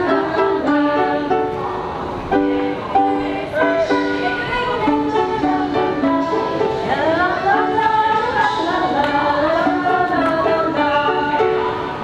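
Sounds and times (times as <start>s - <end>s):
piano playing a tune: 0.0s - 12.0s
voices singing along: 0.0s - 12.0s.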